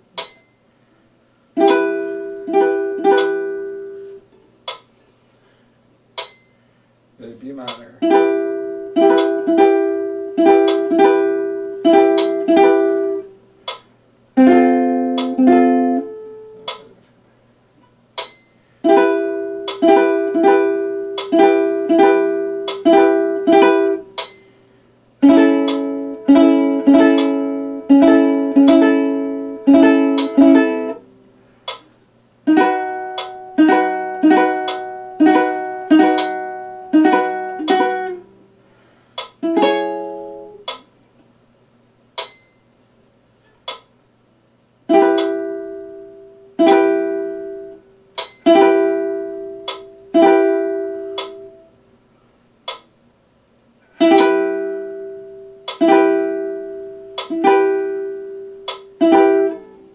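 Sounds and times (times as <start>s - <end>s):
ukulele strummed slowly: 0.0s - 5.6s, 7.6s - 24.5s, 25.2s - 41.2s, 44.9s - 51.8s, 53.8s - 59.9s.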